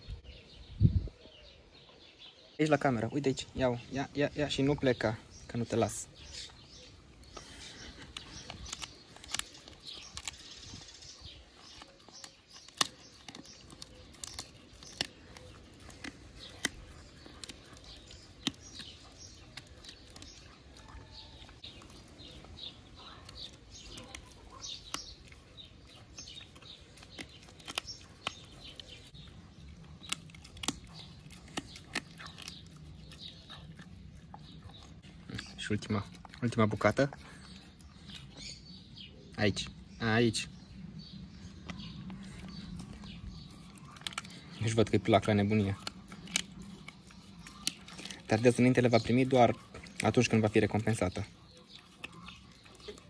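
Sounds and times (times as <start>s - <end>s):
dog chewing and crunching: 3.2s - 53.0s
sharp cracks of biting: 6.2s - 38.7s, 41.5s - 53.0s.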